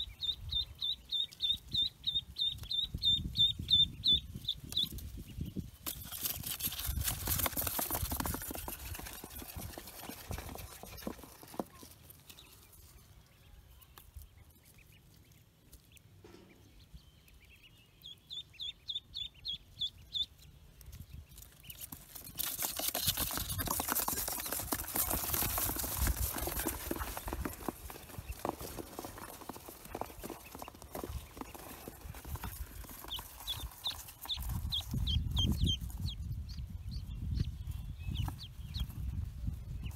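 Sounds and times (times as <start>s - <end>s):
duckling peeping: 0.0s - 6.8s, 8.4s - 39.9s.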